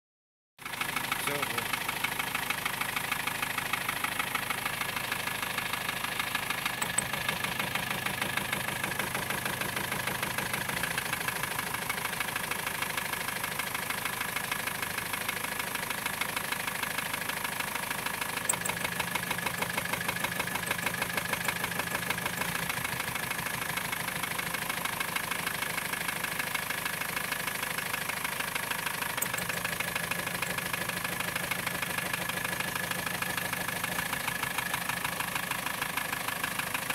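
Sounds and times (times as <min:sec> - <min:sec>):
car engine idling with knock: 0:00.6 - 0:36.9.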